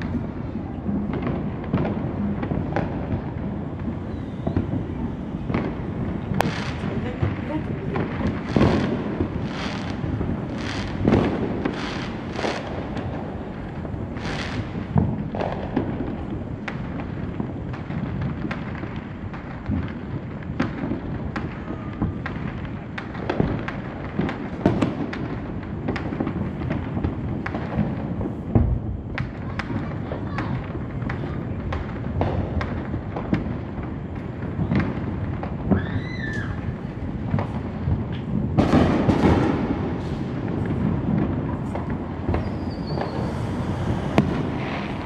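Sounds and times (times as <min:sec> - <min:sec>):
fireworks bangs: 0:00.0 - 0:45.0
fireworks crackling pops: 0:00.0 - 0:45.0.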